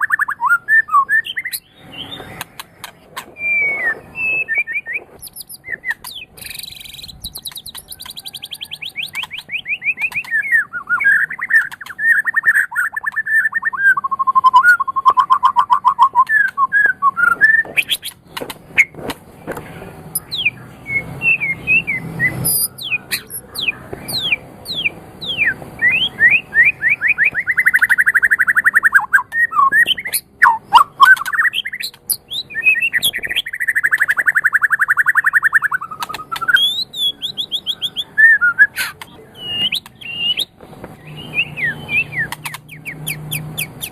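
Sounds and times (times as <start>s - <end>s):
bird singing varied song: 0.0s - 43.9s.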